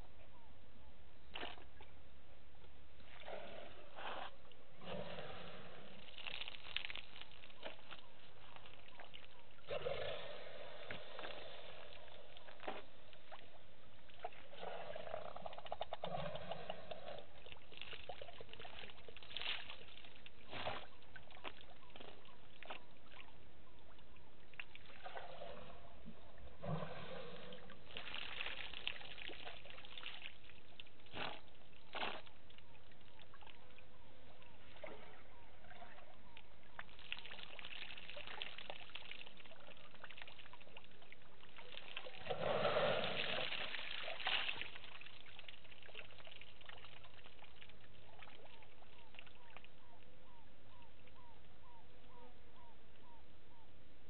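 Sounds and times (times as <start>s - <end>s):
water trickling and splashing: 3.0s - 50.1s.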